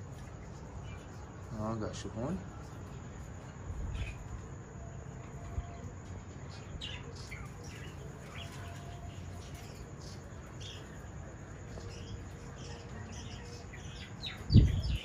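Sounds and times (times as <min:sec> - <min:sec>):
birds chirping softly: 0:00.0 - 0:15.0.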